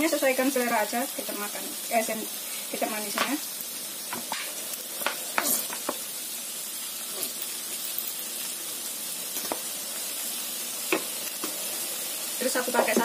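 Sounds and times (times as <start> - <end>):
stir-fry sizzling in a pan: 0.0 - 13.0.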